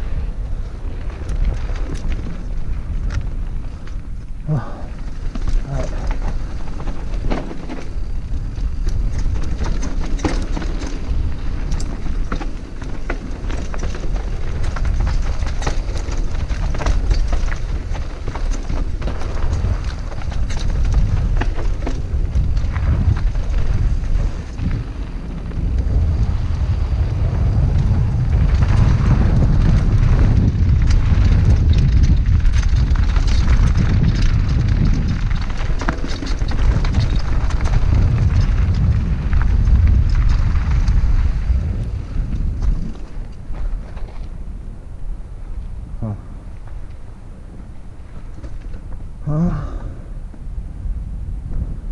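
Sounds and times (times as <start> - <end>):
mountain bike rattling over rocks: 0.0 - 45.6, 46.3 - 49.9
wind on microphone: 0.0 - 51.9.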